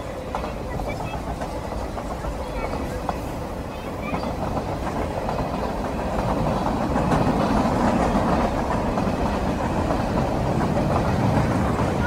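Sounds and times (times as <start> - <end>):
freight train cars rolling: 0.0 - 12.0.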